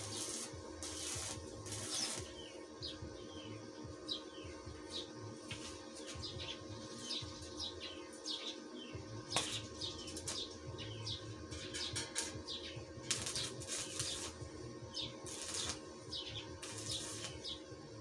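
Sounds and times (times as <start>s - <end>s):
small birds chirping: 0.0s - 17.8s
crackling hiss: 0.0s - 18.0s
steady low hum: 0.0s - 18.0s.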